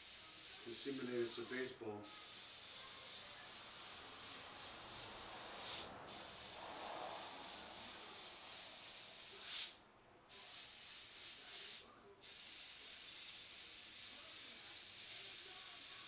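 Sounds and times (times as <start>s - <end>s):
airbrush hissing: 0.0s - 16.0s.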